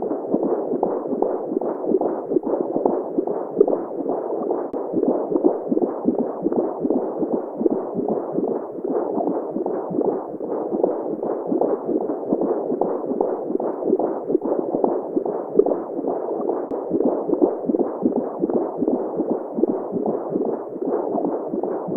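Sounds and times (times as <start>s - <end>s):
heartbeat-like throb: 0.0s - 21.9s.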